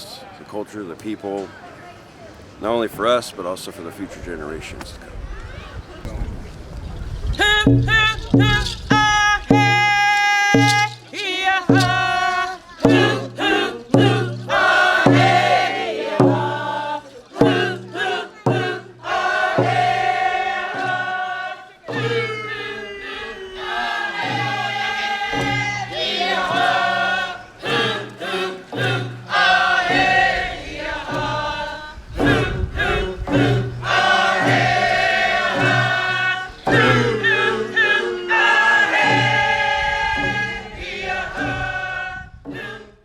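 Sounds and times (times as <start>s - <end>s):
low beat: 7.3s - 43.0s
group of voices singing: 7.4s - 43.0s.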